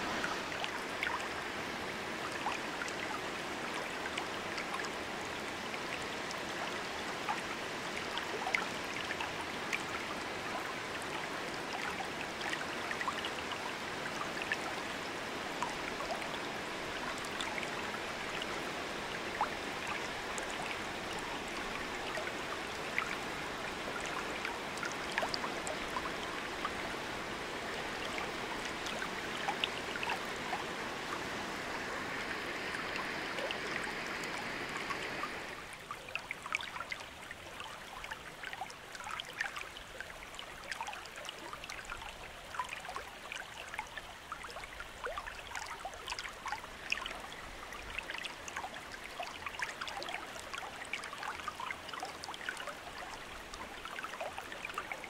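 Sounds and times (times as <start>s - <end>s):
rushing water: 0.0s - 55.0s
small water splashes: 0.0s - 55.0s.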